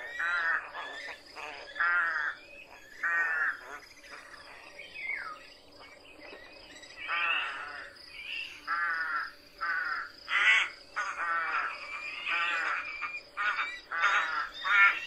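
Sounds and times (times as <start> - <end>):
jackdaw harsh calls: 0.0 - 4.6, 7.0 - 15.0.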